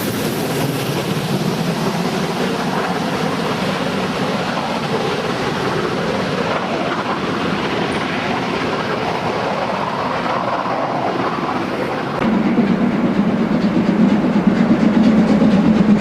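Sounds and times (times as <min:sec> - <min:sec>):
train wheels clattering on track: 0:00.0 - 0:16.0.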